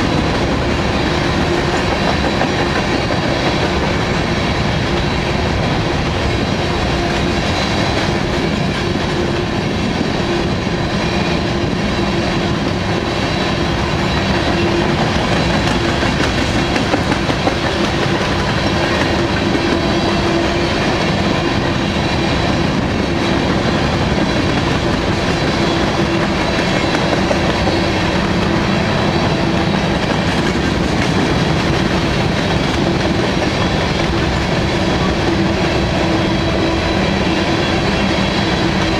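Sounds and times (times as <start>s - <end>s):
train wheels clicking over rail joints: 0.0s - 10.4s, 11.1s - 38.9s.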